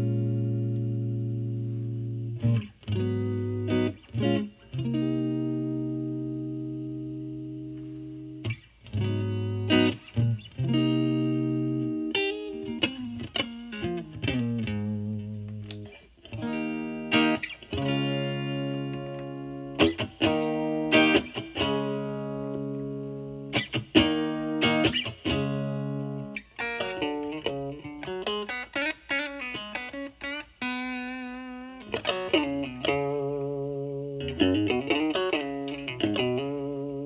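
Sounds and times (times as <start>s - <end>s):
electric guitar playing: 0.0s - 37.0s.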